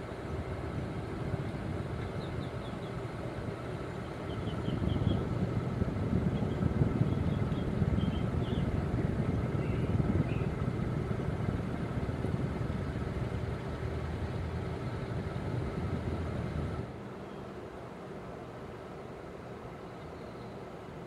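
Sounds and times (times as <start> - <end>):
ceiling fan motor hum: 0.0 - 21.0
fan blades whooshing: 0.0 - 21.0.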